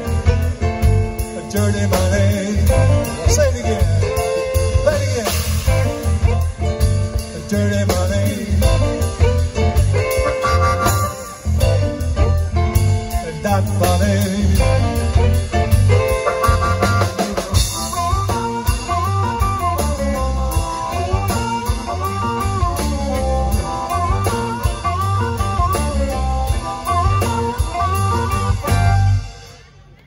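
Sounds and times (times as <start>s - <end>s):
live rock band playing: 0.0s - 30.0s
wavering lead guitar line: 0.0s - 30.0s.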